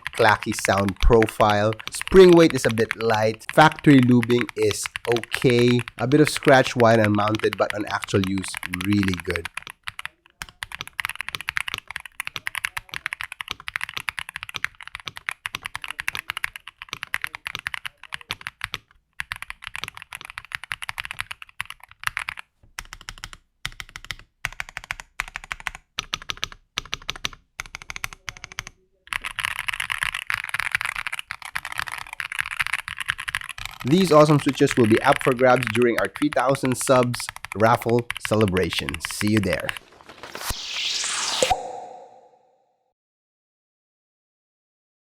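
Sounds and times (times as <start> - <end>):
mechanical keyboard typing: 0.0 - 39.8.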